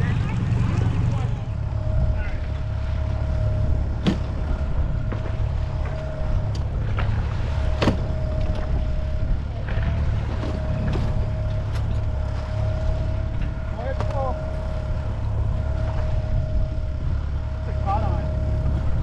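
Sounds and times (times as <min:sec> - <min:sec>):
wind and water rushing along hull: 0:00.0 - 0:19.0.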